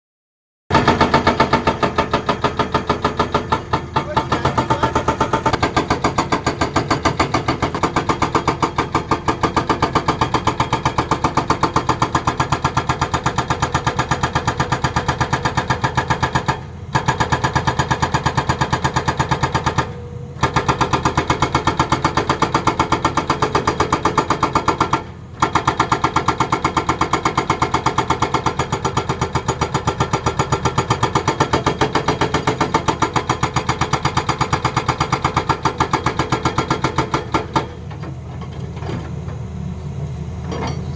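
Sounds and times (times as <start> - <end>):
hydraulic breaker hammering: 0.7 - 39.5.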